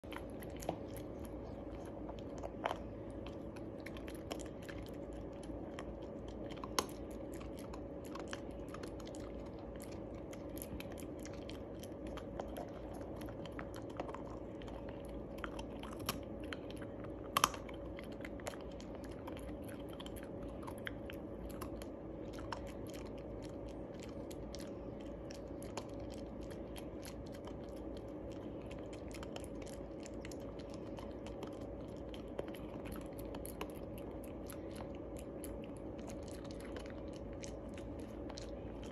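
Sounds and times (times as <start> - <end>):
dog crunching biscuits: 0.0 - 38.9.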